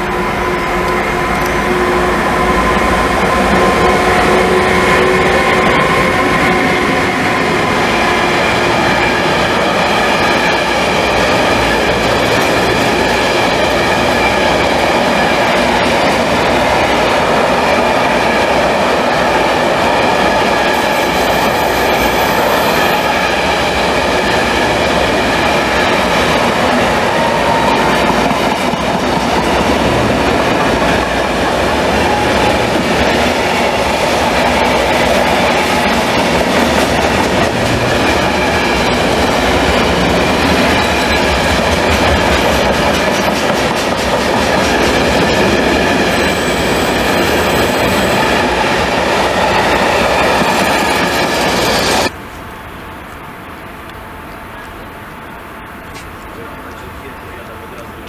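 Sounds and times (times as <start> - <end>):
freight train wheels rolling: 0.0 - 58.0.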